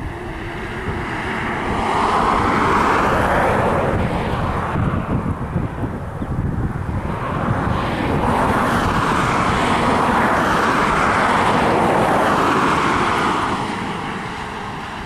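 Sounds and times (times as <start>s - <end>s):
passing vehicle rush: 0.0s - 15.0s.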